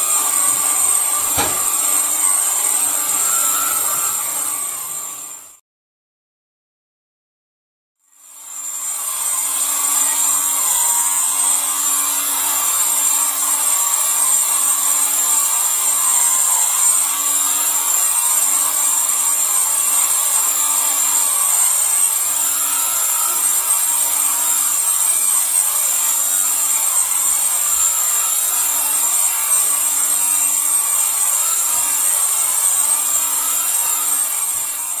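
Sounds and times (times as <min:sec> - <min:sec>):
high-pitched machine whine: 0:00.0 - 0:05.6, 0:08.2 - 0:35.0.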